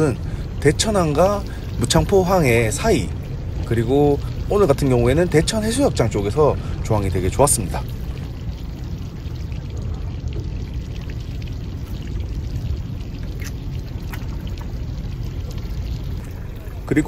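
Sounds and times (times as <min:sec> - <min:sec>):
steady low rumble: 0:00.0 - 0:17.0
water splashing against boat: 0:00.0 - 0:17.0.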